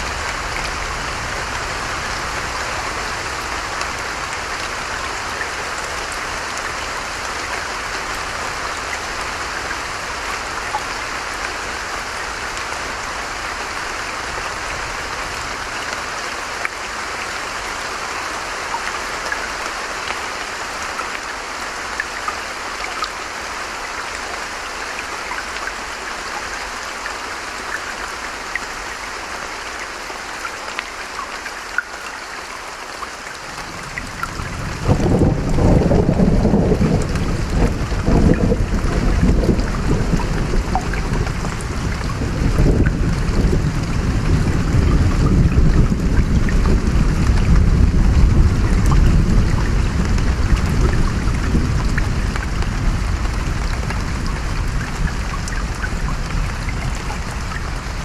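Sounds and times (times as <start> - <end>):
creek water running: 0.0 - 58.0.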